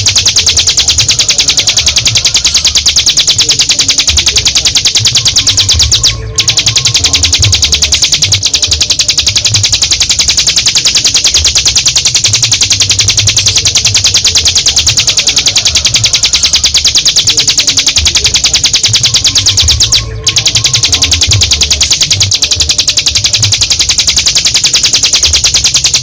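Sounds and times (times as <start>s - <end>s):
bird rattling trill: 0.0s - 26.0s.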